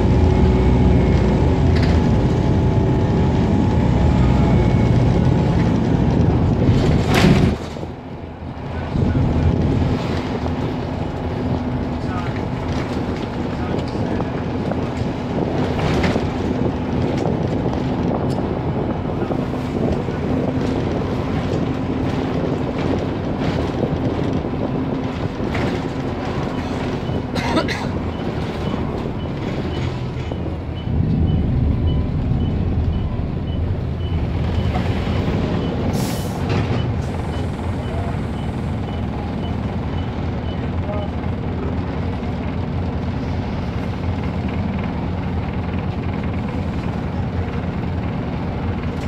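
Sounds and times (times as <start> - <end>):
bus engine running: 0.0 - 49.0
road noise and rattles: 0.0 - 49.0.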